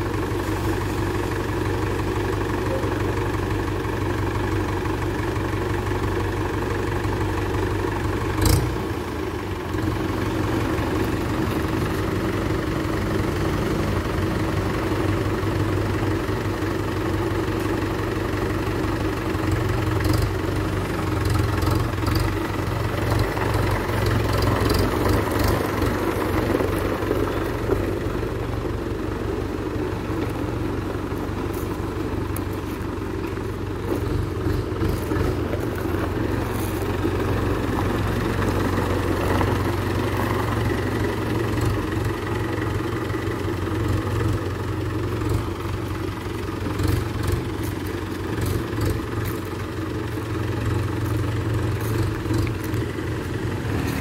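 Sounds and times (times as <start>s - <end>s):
diesel tractor engine idling: 0.0s - 54.0s.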